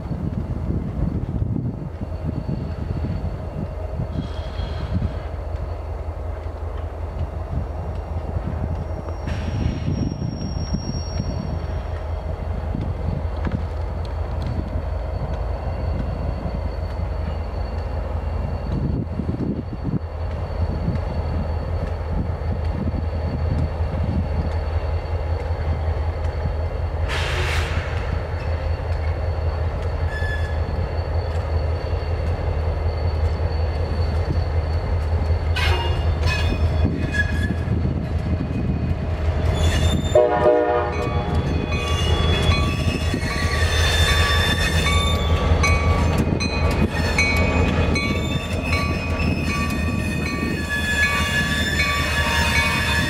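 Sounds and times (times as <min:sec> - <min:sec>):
train wheels squealing: 0:00.0 - 0:06.4, 0:07.2 - 0:53.0
diesel locomotive engine rumbling: 0:00.0 - 0:53.0.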